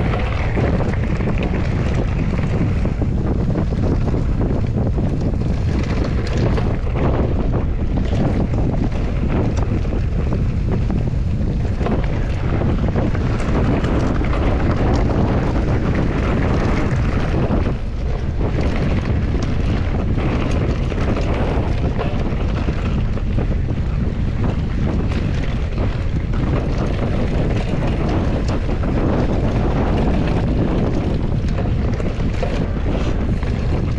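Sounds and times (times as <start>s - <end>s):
bike knocks and rattles: 0.0s - 33.9s
steady rumble: 0.0s - 33.9s
wind buffeting microphone: 0.0s - 33.9s.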